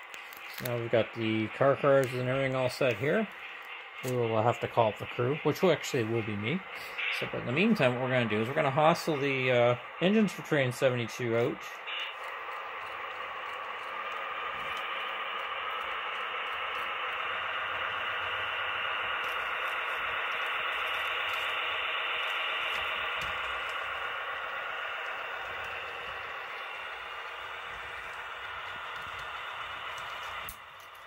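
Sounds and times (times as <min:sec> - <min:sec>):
model train rumbling with whine: 0:00.0 - 0:31.0.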